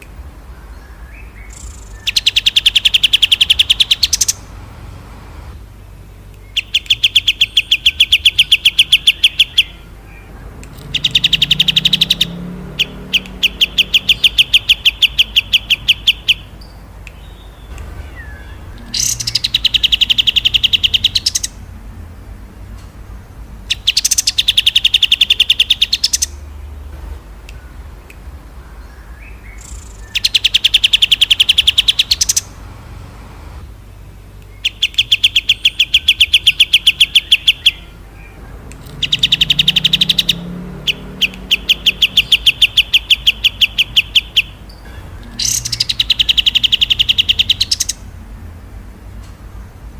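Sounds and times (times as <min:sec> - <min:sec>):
songbird rattling trills: 0:00.3 - 0:05.0, 0:05.8 - 0:21.9, 0:22.6 - 0:27.8, 0:28.4 - 0:33.0, 0:34.5 - 0:48.2.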